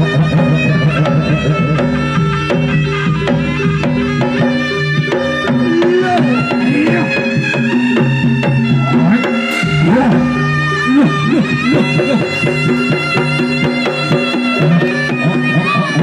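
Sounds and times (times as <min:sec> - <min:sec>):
hand drums beating quickly: 0:00.0 - 0:16.0
ringing pitched instruments: 0:00.0 - 0:16.0.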